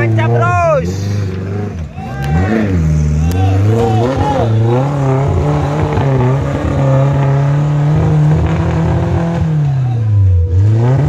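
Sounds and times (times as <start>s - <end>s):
offroader engine revving: 0.0s - 11.0s.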